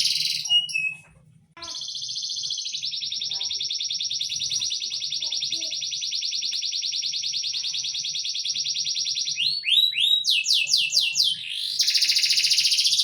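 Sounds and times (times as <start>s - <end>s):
songbird trilling: 0.0s - 1.0s, 2.8s - 13.0s.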